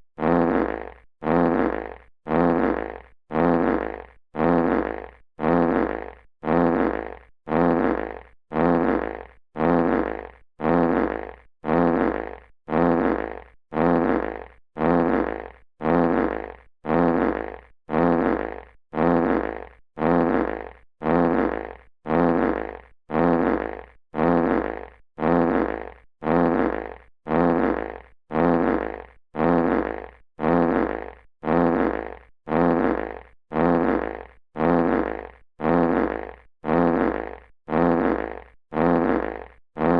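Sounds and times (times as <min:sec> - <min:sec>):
rumbling fart sound effect: 0:00.1 - 0:39.9.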